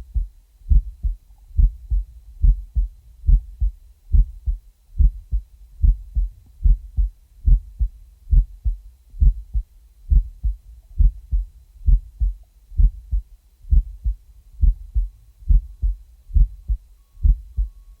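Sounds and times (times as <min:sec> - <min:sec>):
heartbeat thumps: 0:00.0 - 0:17.8.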